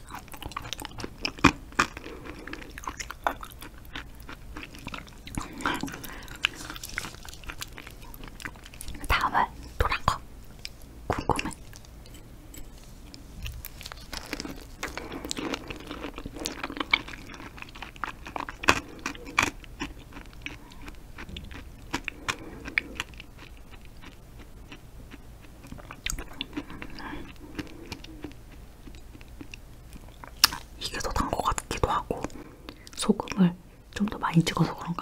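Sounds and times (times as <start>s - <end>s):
close chewing: 0.0s - 9.3s, 9.9s - 30.7s.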